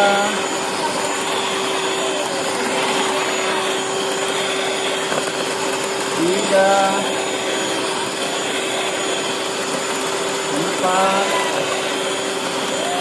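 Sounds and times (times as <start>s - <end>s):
beaters churning batter in bowl: 0.0s - 13.0s
electric hand mixer running: 0.0s - 13.0s.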